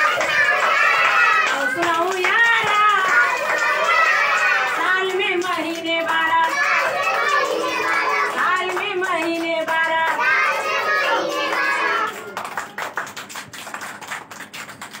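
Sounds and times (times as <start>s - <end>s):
children and adult singing: 0.0s - 12.6s
hand clapping: 0.0s - 15.0s.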